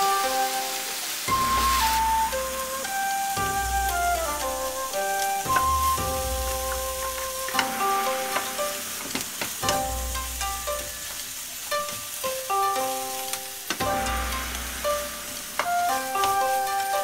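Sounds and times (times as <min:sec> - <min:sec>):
background music: 0:00.0 - 0:17.0
rice and onions sizzling in pan: 0:00.0 - 0:17.0.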